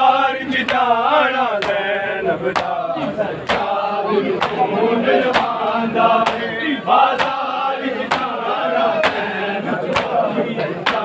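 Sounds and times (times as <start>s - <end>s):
men chanting in chorus: 0.0s - 11.0s
men slapping their chests: 0.5s - 1.9s, 2.5s - 8.4s, 9.0s - 11.0s.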